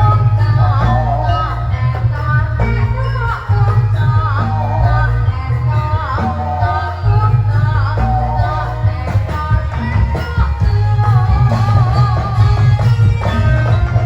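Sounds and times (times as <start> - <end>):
heavy low drumming and bass: 0.0 - 14.0
wavering melody line: 0.0 - 14.0.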